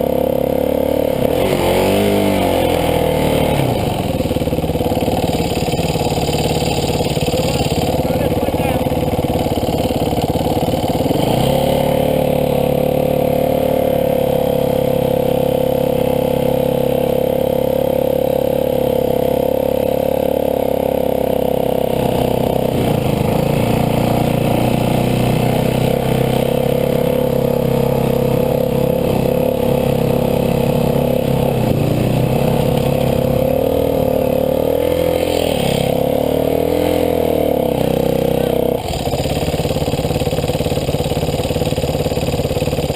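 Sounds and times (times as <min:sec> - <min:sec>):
dirt bike engine: 0:00.0 - 0:42.9.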